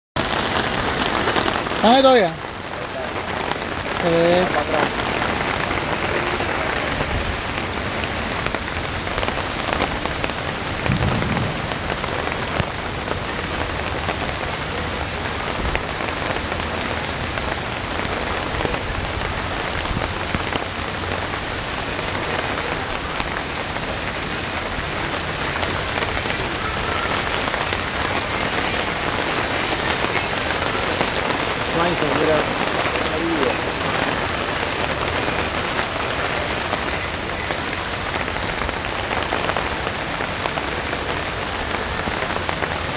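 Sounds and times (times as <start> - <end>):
heavy rain splashing: 0.2 - 42.9.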